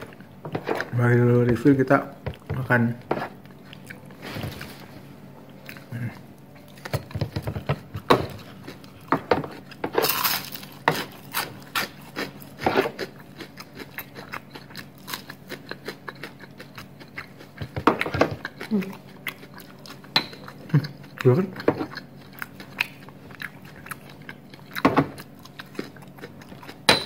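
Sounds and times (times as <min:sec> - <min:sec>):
crunchy chewing of fried food: 0:00.0 - 0:27.0.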